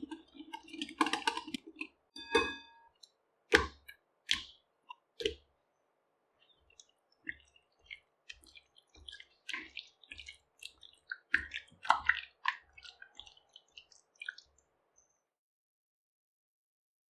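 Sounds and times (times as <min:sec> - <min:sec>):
hand squishing wet marinade: 0:00.0 - 0:15.4.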